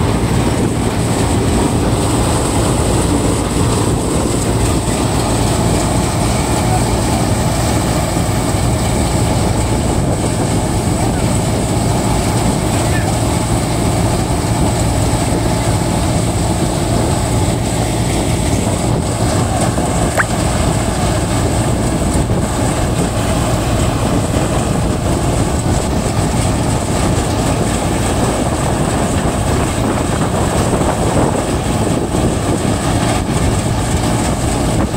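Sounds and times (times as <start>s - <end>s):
tractor engine: 0.0s - 34.9s.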